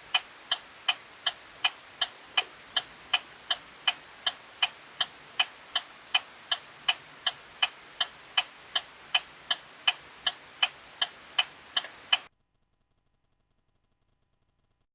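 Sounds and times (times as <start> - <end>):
faint hiss: 0.0 - 12.3
turn signal clicking: 0.0 - 12.3.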